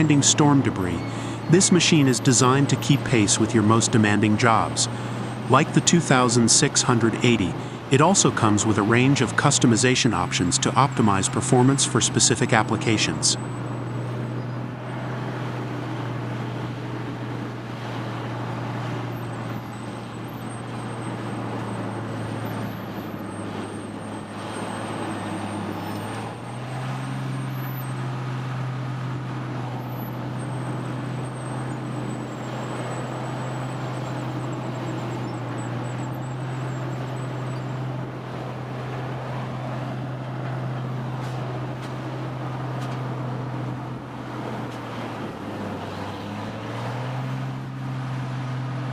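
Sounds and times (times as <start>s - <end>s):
heavy machine engine humming: 0.0s - 48.9s.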